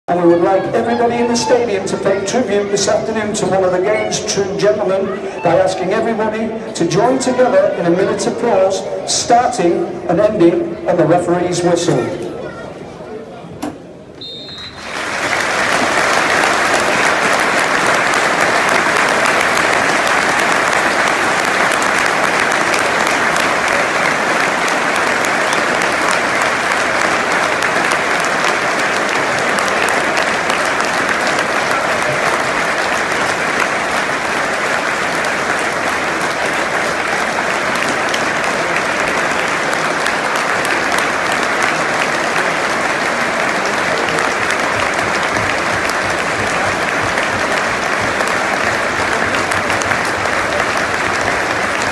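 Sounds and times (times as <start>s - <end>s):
stadium crowd applauding: 0.1s - 12.3s, 14.2s - 51.9s.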